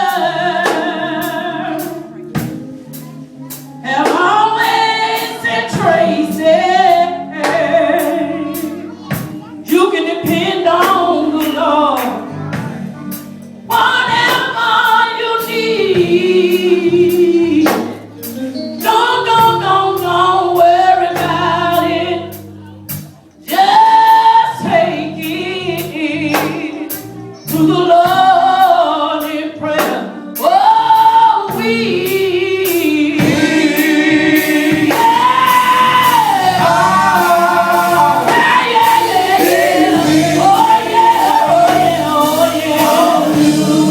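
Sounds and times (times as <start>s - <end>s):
gospel choir singing: 0.0s - 43.9s
instrumental accompaniment: 0.0s - 43.9s.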